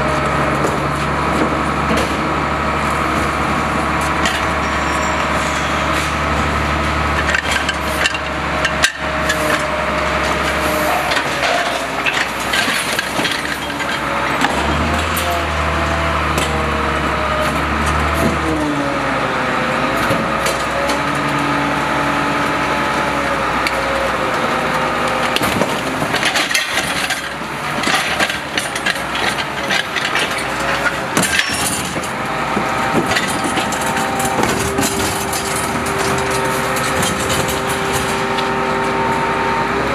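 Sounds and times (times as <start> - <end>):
garbage truck engine running: 0.0 - 39.9
bins and refuse knocking: 0.4 - 18.7, 19.9 - 39.0.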